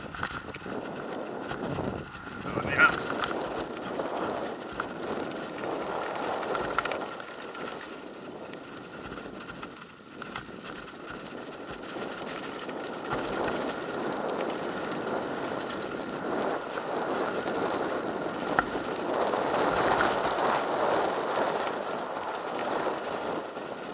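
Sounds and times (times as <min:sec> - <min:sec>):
vehicle rattles and knocks: 0:00.0 - 0:20.7
tyres rolling over gravel: 0:00.0 - 0:23.9.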